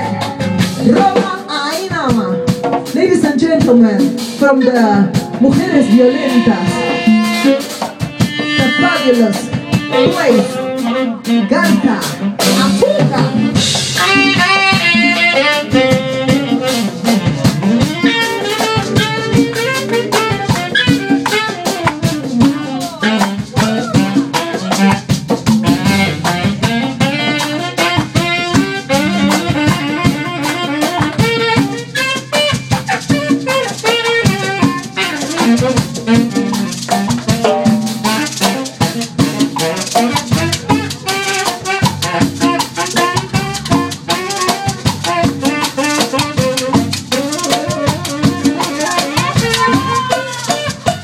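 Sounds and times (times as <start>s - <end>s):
drum kit: 0.0s - 51.0s
rattling hand percussion: 0.0s - 51.0s
saxophone lead: 0.0s - 51.0s.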